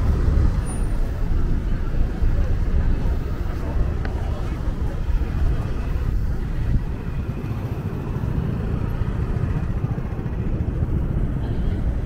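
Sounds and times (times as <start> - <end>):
city street rumble: 0.0 - 12.0.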